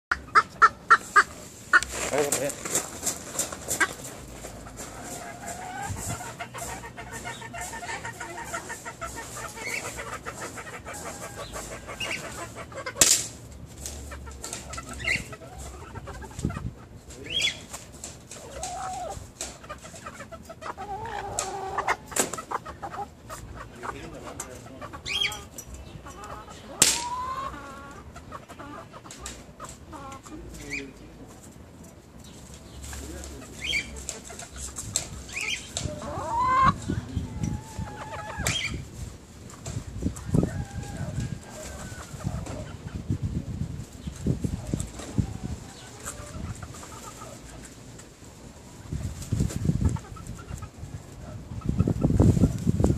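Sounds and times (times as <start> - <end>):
chickens clucking: 0.1 - 52.9.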